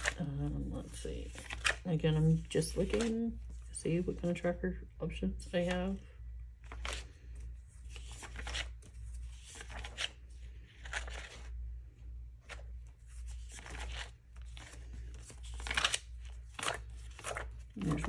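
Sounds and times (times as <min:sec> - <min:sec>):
pages rustling: 0:00.0 - 0:04.4, 0:06.6 - 0:11.6, 0:12.4 - 0:18.0.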